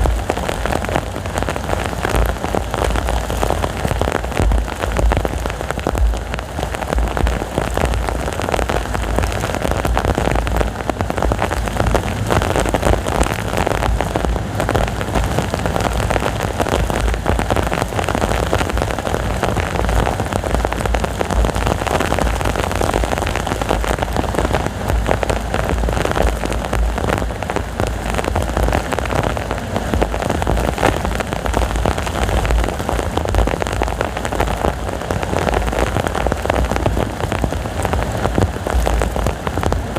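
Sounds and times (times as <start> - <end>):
heavy rain pouring: 0.0 - 39.9
strong wind rumble: 0.0 - 39.9.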